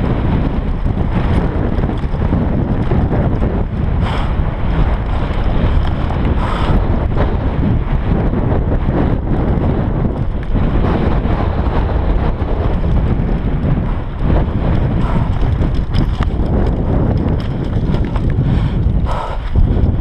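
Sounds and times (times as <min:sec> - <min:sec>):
bike knocks and rattles: 0:00.0 - 0:20.0
wind buffeting microphone: 0:00.0 - 0:20.0.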